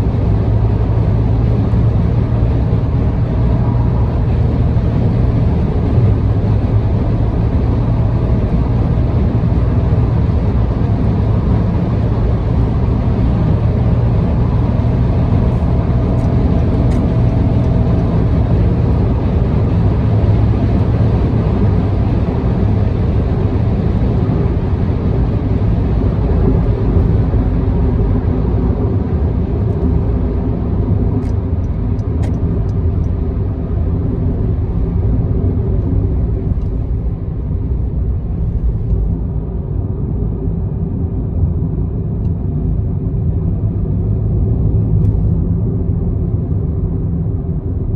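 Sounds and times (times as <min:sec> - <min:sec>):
car tyre and engine drone: 0:00.0 - 0:47.9.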